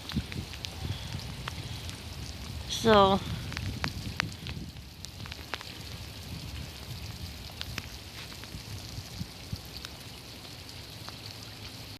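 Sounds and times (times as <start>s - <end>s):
rain hiss: 0.0s - 11.9s
raindrops ticking: 0.0s - 11.9s.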